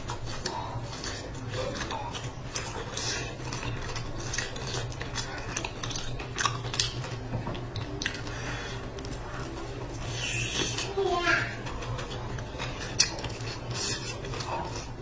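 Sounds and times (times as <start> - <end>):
chewing fried dough: 0.0 - 15.0
sharp crackles of food: 0.0 - 15.0
steady low hum: 0.0 - 15.0.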